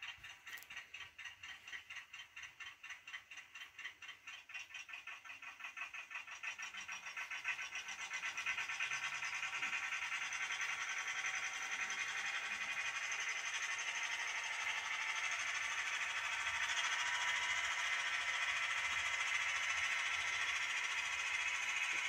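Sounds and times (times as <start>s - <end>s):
model train motor whirring: 0.0s - 22.0s.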